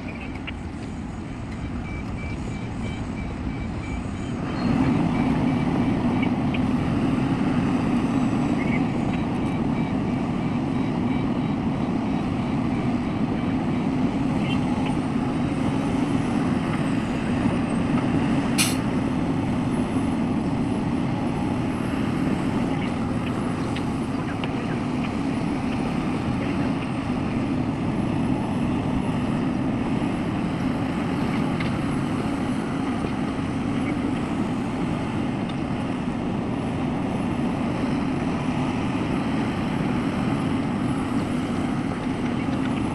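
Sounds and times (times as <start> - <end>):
heavy diesel machinery drone: 0.0 - 42.9.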